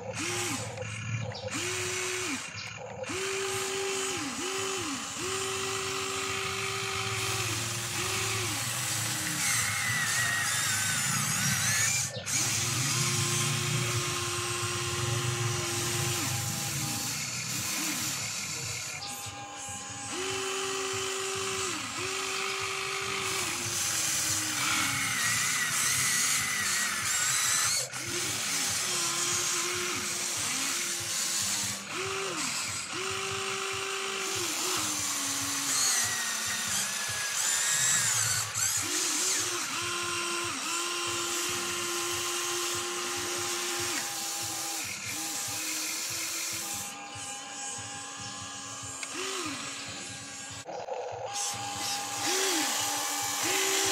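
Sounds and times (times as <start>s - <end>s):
small electric motors whining: 0.0s - 53.9s.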